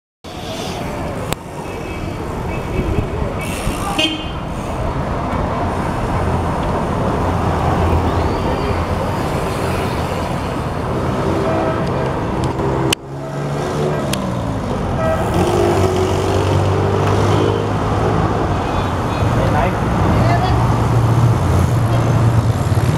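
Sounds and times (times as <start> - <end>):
road noise: 0.2 - 22.9
vehicle engines passing: 0.2 - 22.9.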